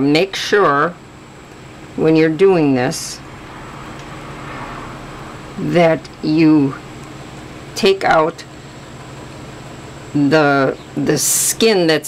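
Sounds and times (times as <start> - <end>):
room hiss and hum: 0.0 - 12.0.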